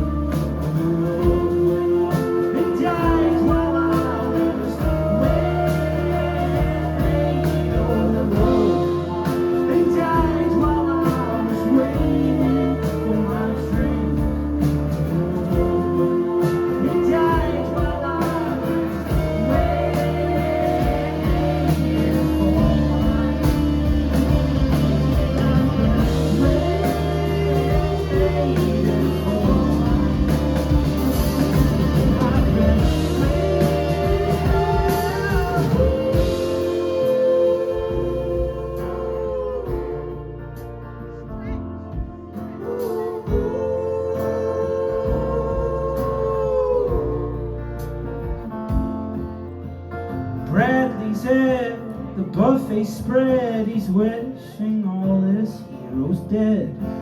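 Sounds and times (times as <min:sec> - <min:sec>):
bass line: 0:00.0 - 0:54.6
drums: 0:00.0 - 0:57.0
guitars: 0:00.0 - 0:57.0.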